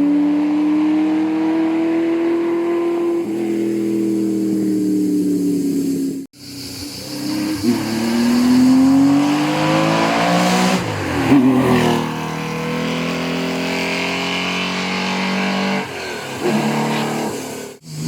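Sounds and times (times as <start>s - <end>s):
racing car engine accelerating: 0.0s - 5.4s, 7.0s - 18.0s.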